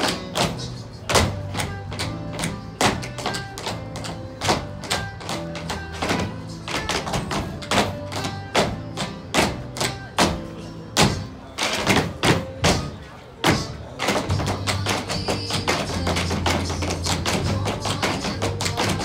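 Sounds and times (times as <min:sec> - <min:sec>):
tap shoes striking stage floor: 0:00.0 - 0:19.0.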